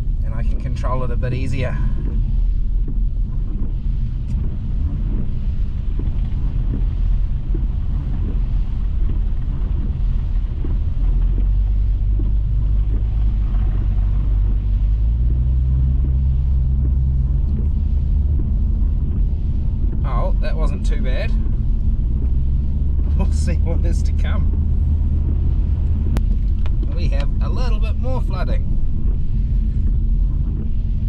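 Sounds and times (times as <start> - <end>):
car engine rumble: 0.0 - 31.0
tyres on wet road: 0.0 - 31.0
heavy rain: 1.3 - 31.0.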